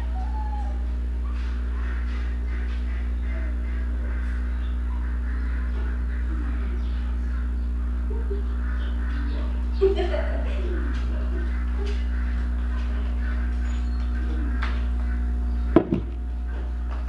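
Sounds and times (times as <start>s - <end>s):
faint chirps and calls: 0.0s - 16.7s
steady low hum: 0.0s - 17.0s.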